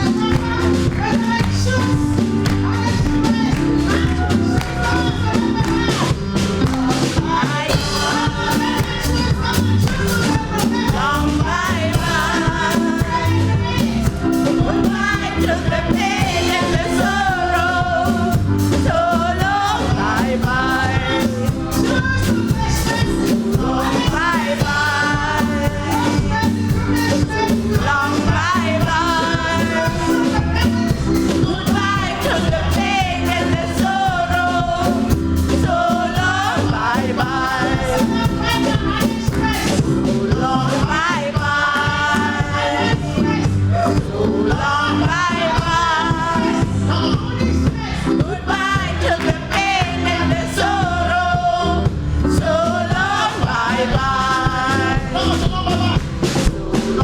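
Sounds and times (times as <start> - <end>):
band with drums bass and keyboards: 0.0 - 57.0
singers performing gospel: 0.0 - 57.0.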